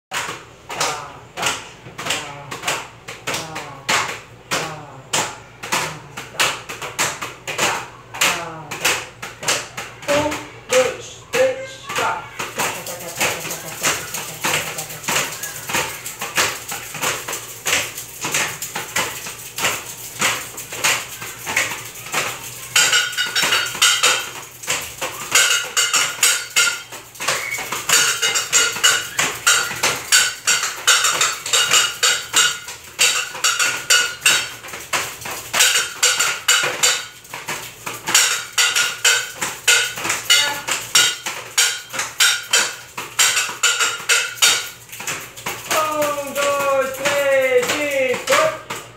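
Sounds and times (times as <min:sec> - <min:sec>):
children playing percussion instruments: 0:00.7 - 0:48.9.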